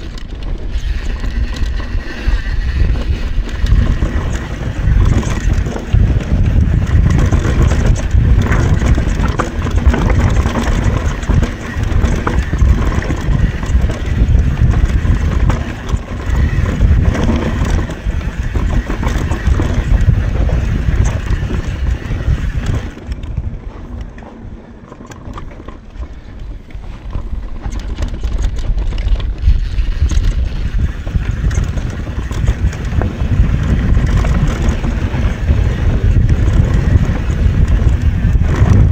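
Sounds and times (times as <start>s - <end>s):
bike frame rattling: 0.0s - 38.9s
tyres rumbling over dirt and rocks: 0.0s - 38.9s
wind buffeting microphone: 0.0s - 38.9s.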